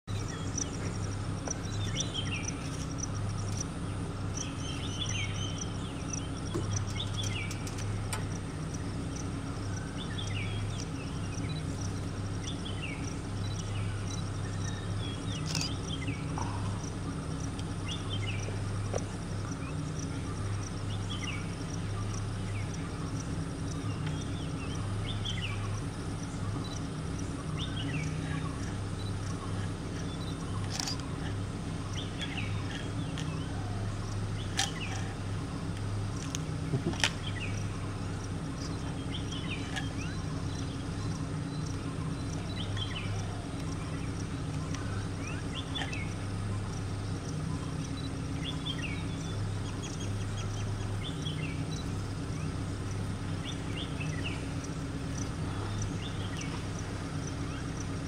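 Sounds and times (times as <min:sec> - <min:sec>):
low steady hum: 0:00.0 - 0:58.0
high insect trill: 0:00.1 - 0:58.0.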